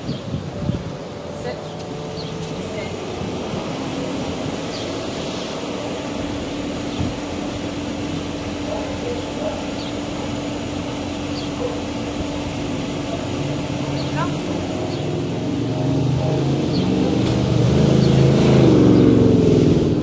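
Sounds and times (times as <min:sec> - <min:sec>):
steady hum: 0:00.0 - 0:18.5
engine drone: 0:00.0 - 0:20.0
outdoor background noise: 0:00.0 - 0:20.0.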